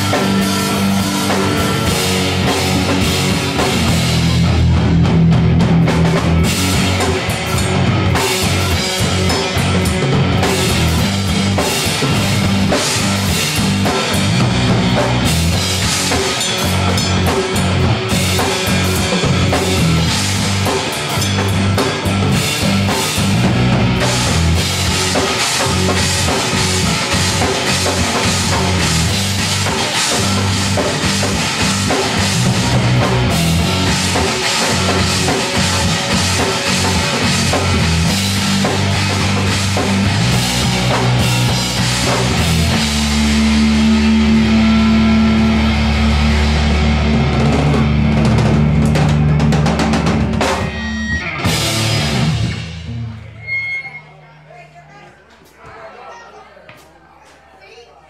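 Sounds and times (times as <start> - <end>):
live rock band playing: 0.0 - 54.9
drum kit: 0.0 - 55.6.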